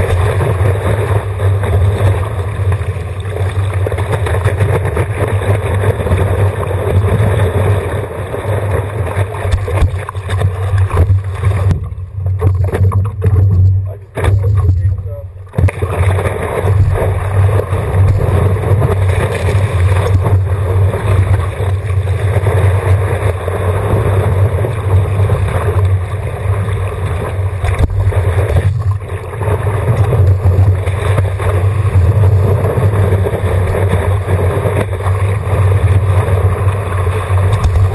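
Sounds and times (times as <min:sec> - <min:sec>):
water rushing and splashing: 0:00.0 - 0:37.9
wind rumble on microphone: 0:00.0 - 0:37.9.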